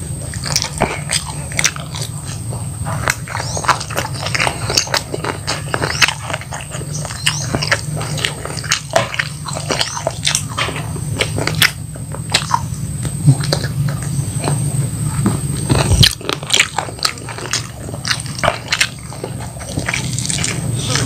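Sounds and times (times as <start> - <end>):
crunchy chewing: 0.0 - 21.0
low hum: 0.0 - 21.0.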